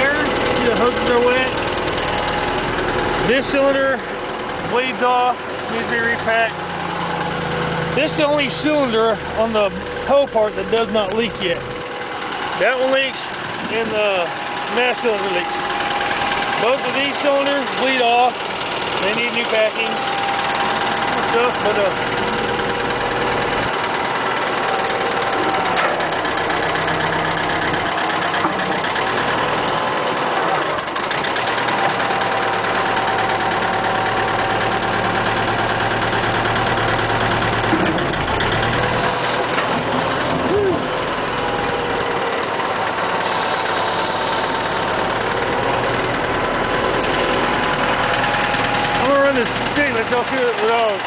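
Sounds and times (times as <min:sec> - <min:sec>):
backhoe engine idling: 0:00.0 - 0:51.0.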